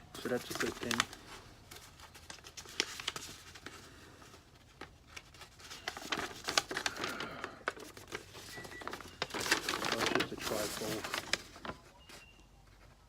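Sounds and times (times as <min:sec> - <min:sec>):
paper and cardboard rustling: 0:00.1 - 0:13.0.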